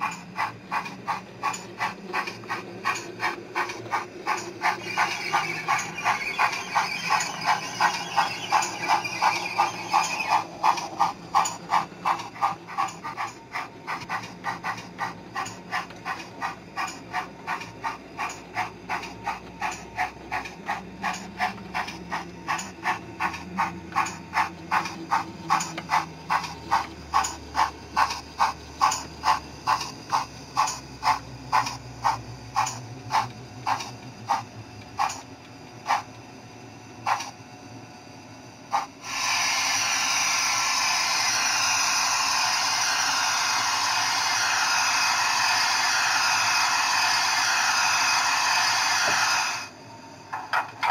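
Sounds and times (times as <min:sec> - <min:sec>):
model steam locomotive chuffing: 0:00.0 - 0:50.9.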